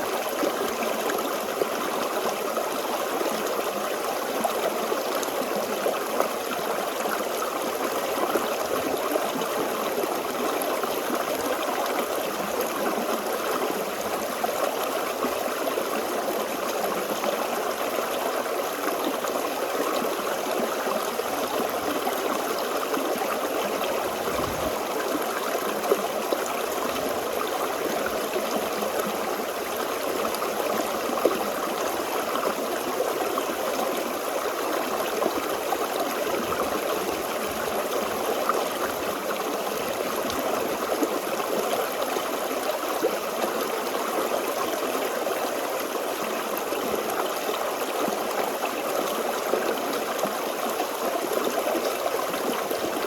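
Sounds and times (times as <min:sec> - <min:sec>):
stream flowing over rocks: 0:00.0 - 0:53.0.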